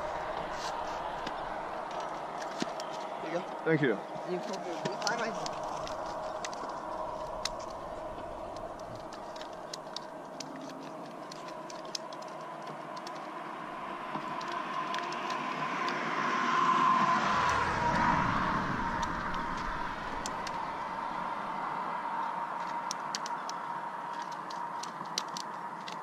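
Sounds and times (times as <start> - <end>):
vehicle passing: 0.0 - 23.8
traffic hum: 0.0 - 26.0.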